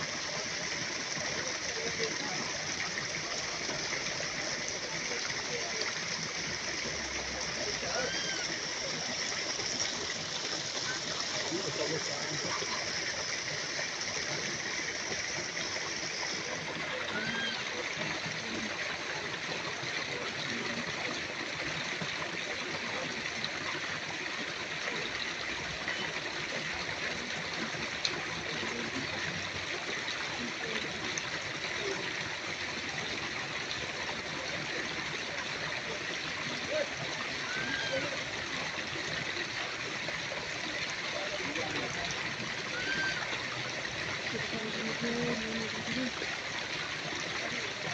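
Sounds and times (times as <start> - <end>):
stream running over rocks: 0.0 - 47.9.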